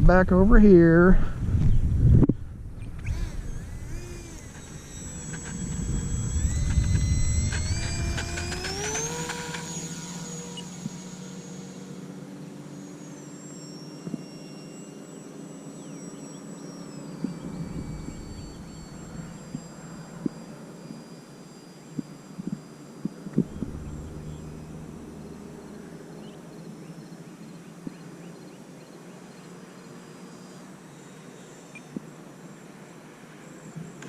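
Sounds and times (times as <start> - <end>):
model plane motor whining: 2.6 - 34.0.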